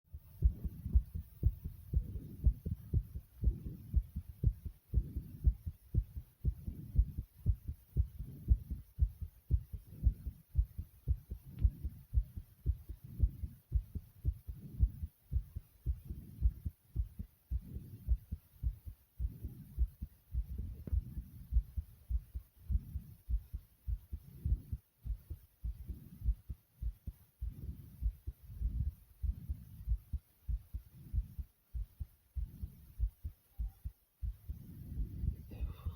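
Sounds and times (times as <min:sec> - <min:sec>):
heartbeat thumps: 0:00.1 - 0:35.9.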